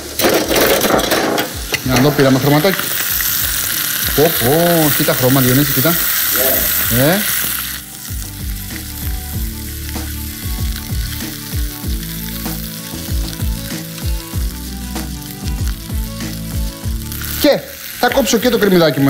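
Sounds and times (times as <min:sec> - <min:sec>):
chicken sizzling in a pan: 0:00.0 - 0:19.0.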